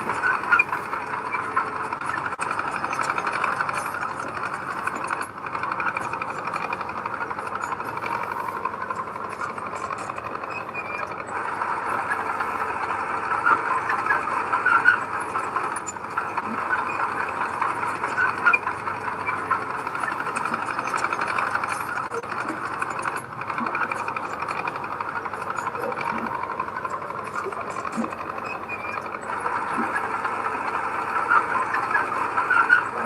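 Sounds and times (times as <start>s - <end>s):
heavy machinery engine running: 0.0s - 33.0s
small metallic rattles: 0.0s - 33.0s.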